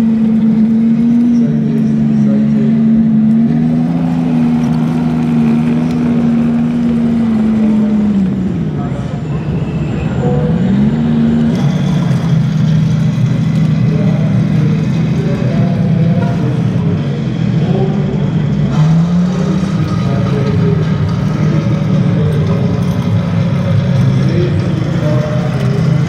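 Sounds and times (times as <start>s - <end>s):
model tank engine running: 0.0s - 26.0s.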